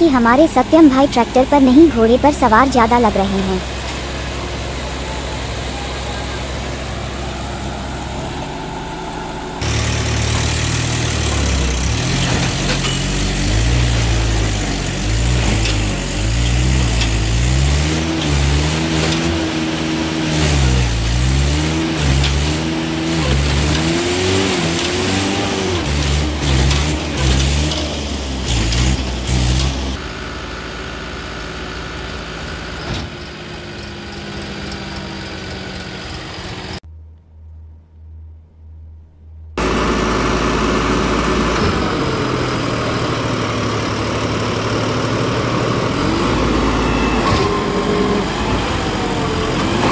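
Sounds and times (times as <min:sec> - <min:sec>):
tractor diesel engines revving: 0:00.0 - 0:36.9, 0:39.6 - 0:49.9.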